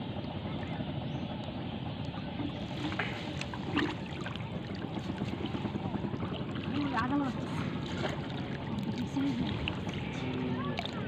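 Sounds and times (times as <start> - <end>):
water sloshing around raft: 2.1 - 11.0.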